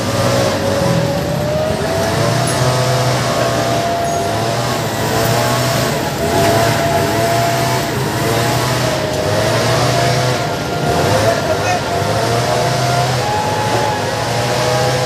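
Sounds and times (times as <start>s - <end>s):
scooter engines revving: 0.0s - 15.0s.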